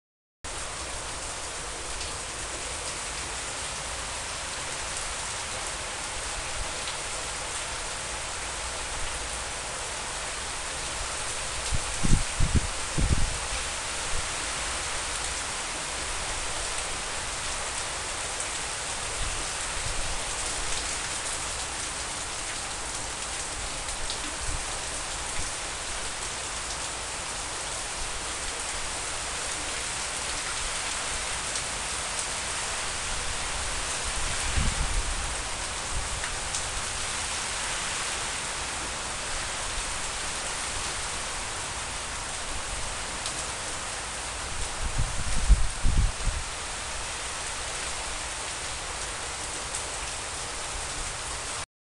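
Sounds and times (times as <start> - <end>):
heavy rain splashing: 0.5 - 51.7.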